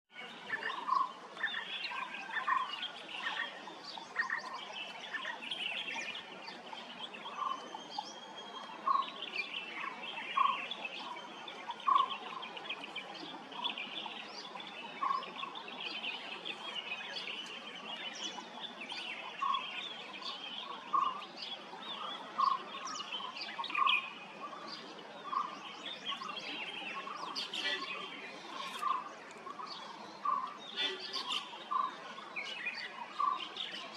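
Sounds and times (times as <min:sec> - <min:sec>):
birds chirping and singing: 0:00.2 - 0:33.9.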